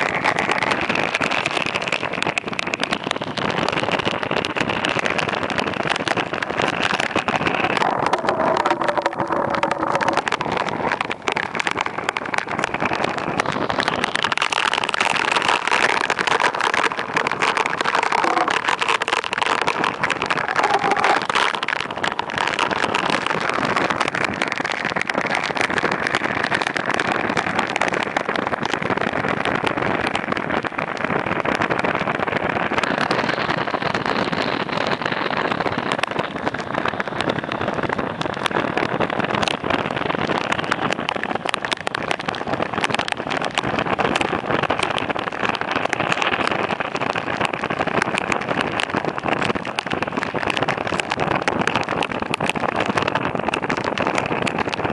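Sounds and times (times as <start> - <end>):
storm wind and rain: 0.0 - 54.9.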